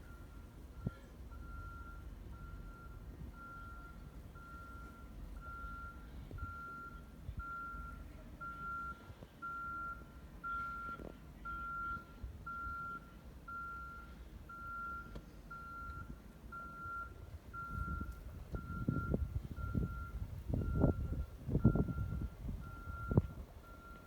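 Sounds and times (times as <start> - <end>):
vehicle backup alarm beeping: 0.0 - 24.0.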